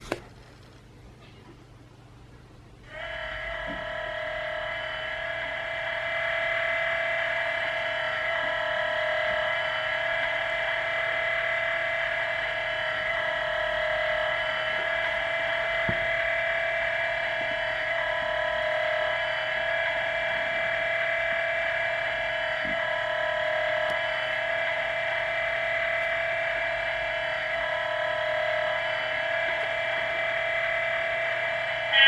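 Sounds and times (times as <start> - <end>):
model locomotive engine idle hum: 2.6 - 32.0.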